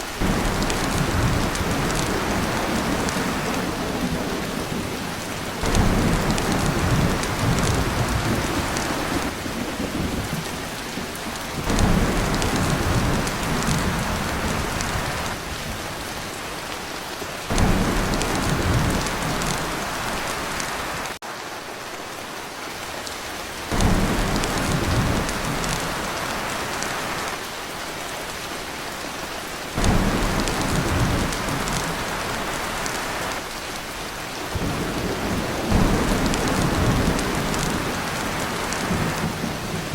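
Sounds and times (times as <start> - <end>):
heavy rain on a tin roof: 0.0 - 39.9
thunder rumbles: 0.1 - 16.2, 17.5 - 21.2, 23.6 - 27.4, 29.7 - 33.6, 34.4 - 39.9.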